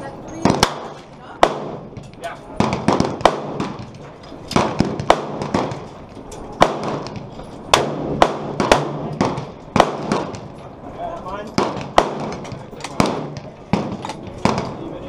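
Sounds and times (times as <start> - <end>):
rifle shots echoing: 0.4 - 10.7, 11.5 - 15.0.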